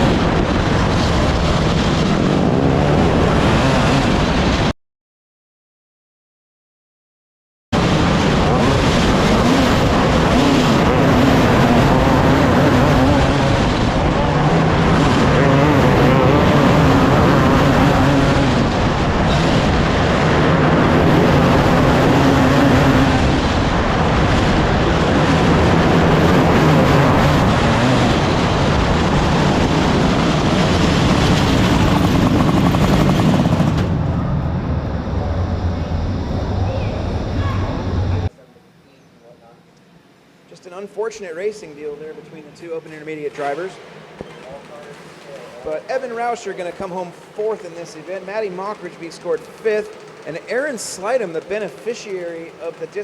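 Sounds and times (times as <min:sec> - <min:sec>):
race car engines: 0:00.0 - 0:04.7, 0:07.8 - 0:38.3, 0:41.6 - 0:53.0.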